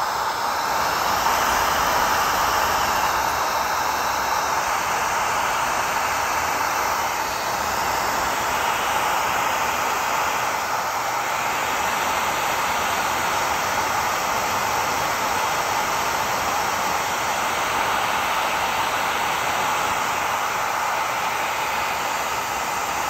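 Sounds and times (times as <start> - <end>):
hot-air blower rushing hiss: 0.0 - 23.0.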